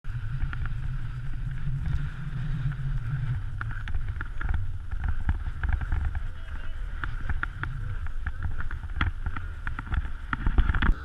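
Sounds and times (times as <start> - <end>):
snowmobile engine rumbling: 0.0 - 11.0.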